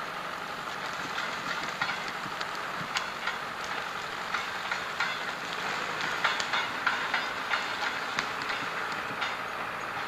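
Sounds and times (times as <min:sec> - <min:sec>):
crawler loader engine hum: 0:00.0 - 0:10.0
steel tracks clattering: 0:01.1 - 0:10.0
metallic clicks and clanks: 0:01.7 - 0:10.0.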